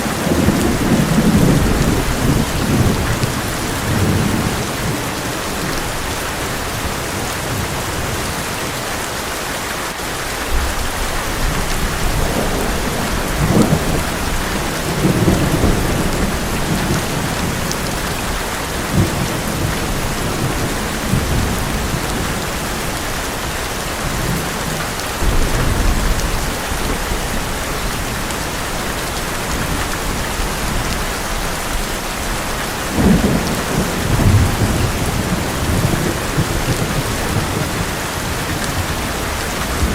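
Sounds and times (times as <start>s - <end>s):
thunder rumbling: 0.0s - 8.3s, 10.5s - 39.9s
heavy rain on a metal roof: 0.0s - 39.9s.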